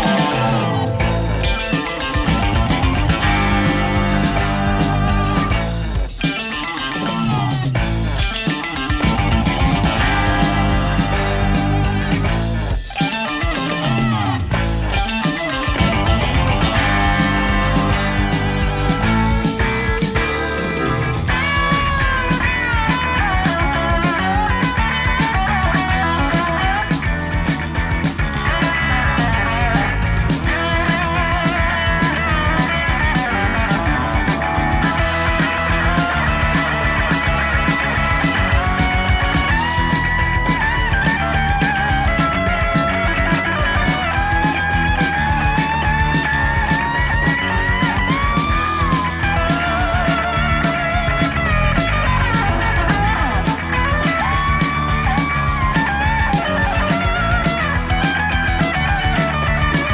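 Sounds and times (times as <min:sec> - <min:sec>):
bass and drums: 0:00.0 - 0:59.9
electric lead guitar: 0:00.0 - 0:59.9.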